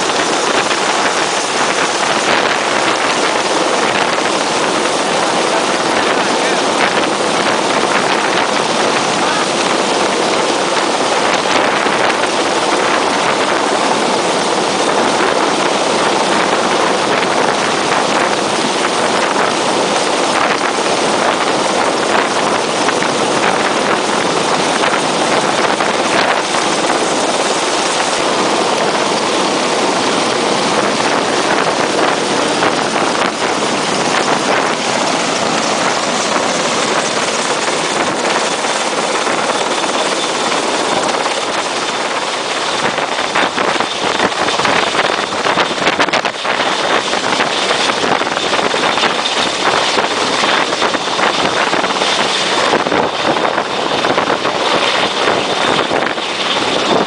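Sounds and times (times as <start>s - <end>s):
helicopter rotor and turbine noise: 0.0s - 57.0s
wind buffeting microphone: 0.0s - 57.0s.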